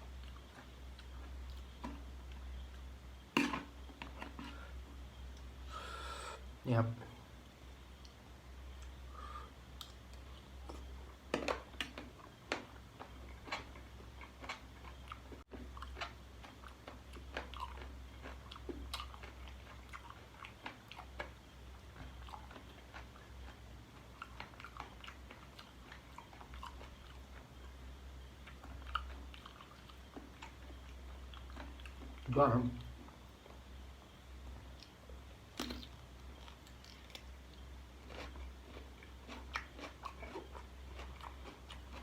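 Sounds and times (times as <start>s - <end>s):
person chewing close up: 0.1s - 4.6s, 9.8s - 33.6s, 35.6s - 42.0s.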